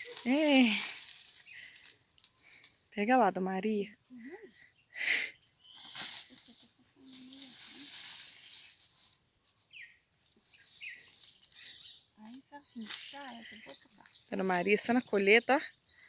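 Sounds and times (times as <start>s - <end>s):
leaves and branches rustling: 0.0s - 3.9s, 5.1s - 15.7s.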